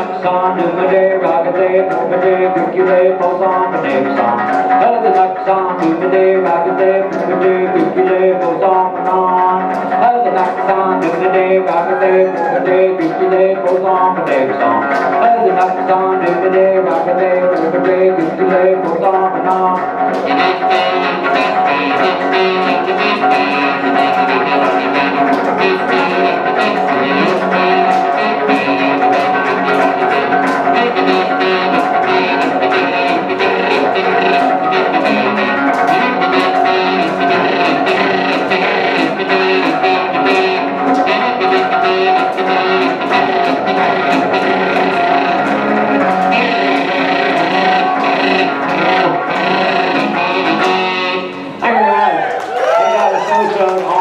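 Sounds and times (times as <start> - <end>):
stringed instrument strumming: 0.0 - 51.8
steady beat: 0.0 - 54.0.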